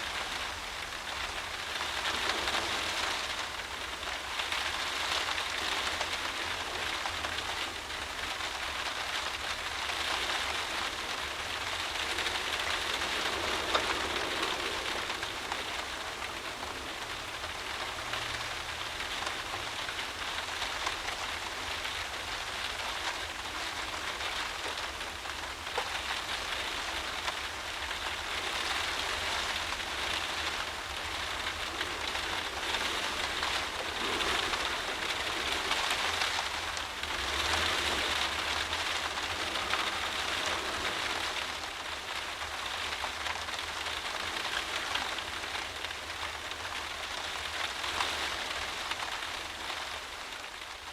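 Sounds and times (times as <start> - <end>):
heavy rain against a window: 0.0 - 50.9.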